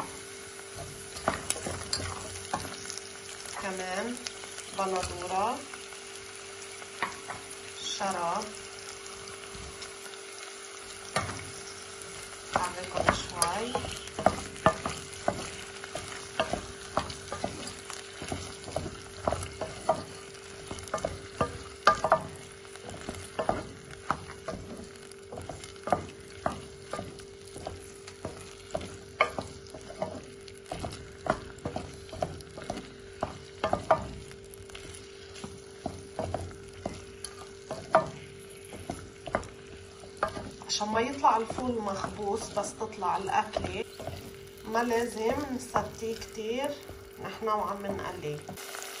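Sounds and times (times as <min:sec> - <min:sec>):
wooden spoon scraping a pot: 0:00.0 - 0:03.6, 0:10.9 - 0:48.7
food sizzling in oil: 0:00.0 - 0:49.0.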